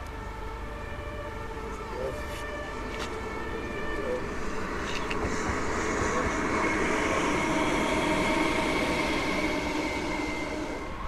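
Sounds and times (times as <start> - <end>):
train running by: 0.0 - 11.0.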